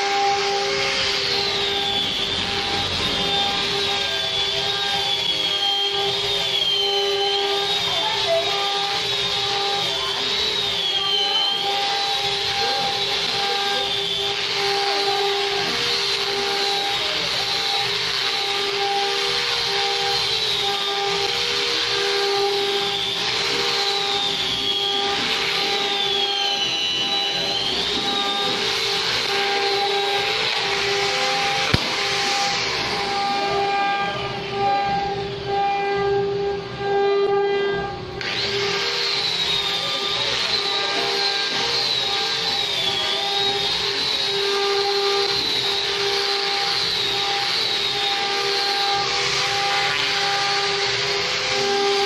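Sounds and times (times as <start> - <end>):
angle grinder sanding wood: 0.0 - 35.1, 38.2 - 52.0.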